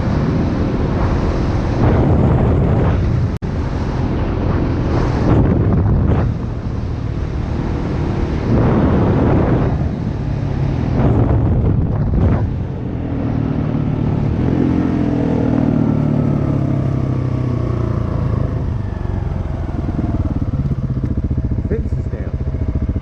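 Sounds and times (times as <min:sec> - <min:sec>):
dirt bike engine running: 0:00.0 - 0:23.0
rushes of noise: 0:00.0 - 0:23.0.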